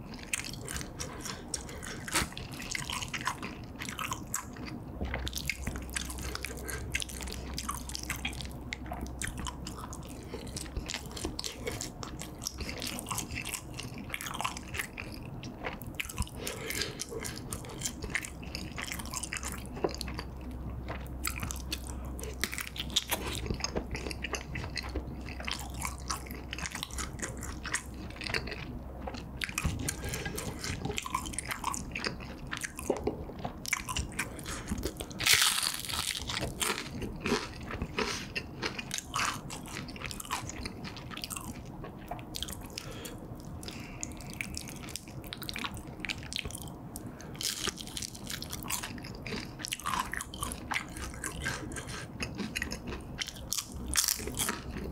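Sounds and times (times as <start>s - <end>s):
chewing: 0.0s - 54.9s.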